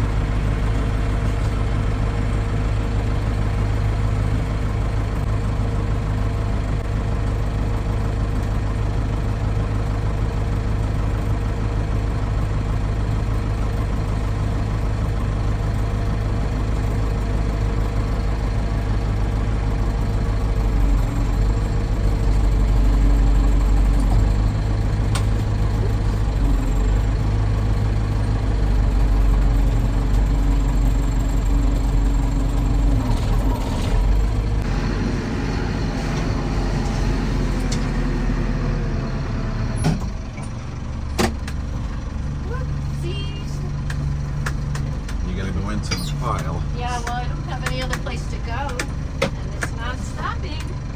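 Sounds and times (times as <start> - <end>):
heavy tractor engine running: 0.0 - 50.9.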